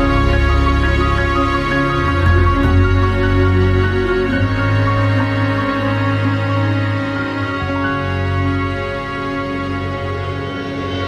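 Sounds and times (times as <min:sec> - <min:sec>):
soft sustained chords: 0:00.0 - 0:11.0.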